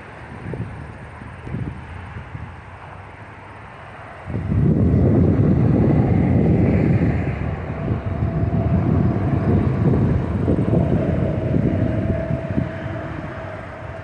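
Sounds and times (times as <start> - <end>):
turboprop aircraft passing overhead: 0.0 - 14.0.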